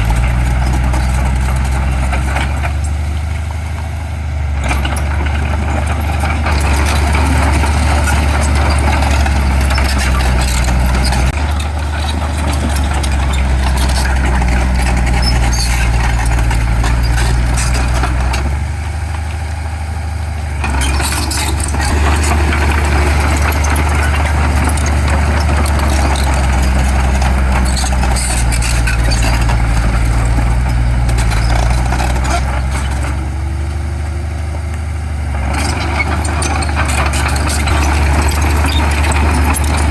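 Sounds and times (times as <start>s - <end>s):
diesel machinery engine running: 0.0s - 39.9s.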